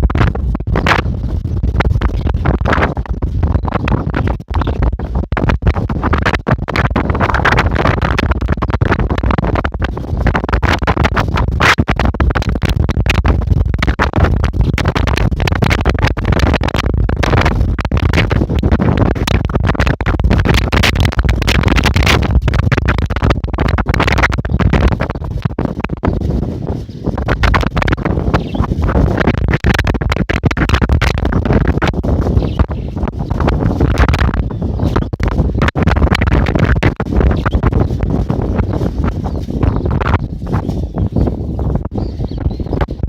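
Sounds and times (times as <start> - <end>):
strong wind buffeting microphone: 0.0 - 43.0.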